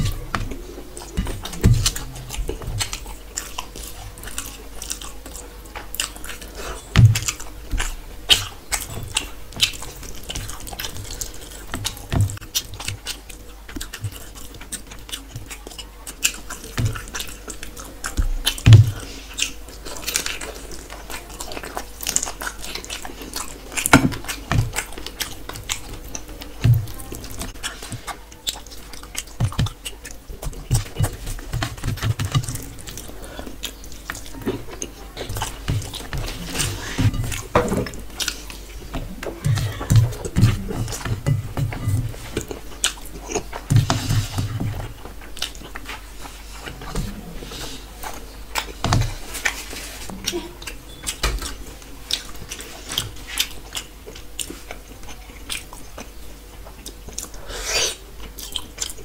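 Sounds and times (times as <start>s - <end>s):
chewing and mouth smacks: 0.0s - 59.0s.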